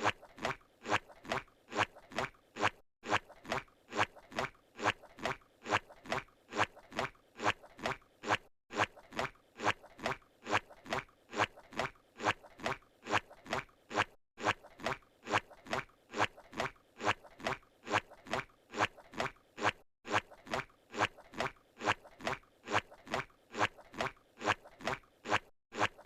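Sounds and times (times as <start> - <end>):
cartoon footsteps: 0.0 - 26.0.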